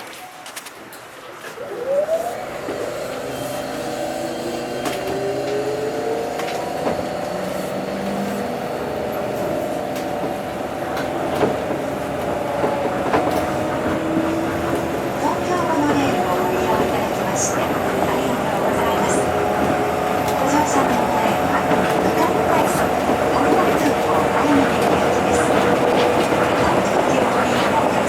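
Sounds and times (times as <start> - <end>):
monorail motors whining: 0.3 - 28.0
train rumble: 2.4 - 28.0.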